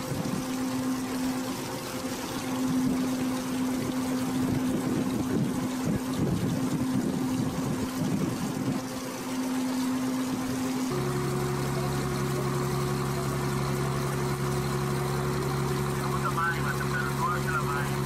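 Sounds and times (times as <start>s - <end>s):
boat engine humming: 0.0s - 18.0s
water rushing: 0.0s - 18.0s.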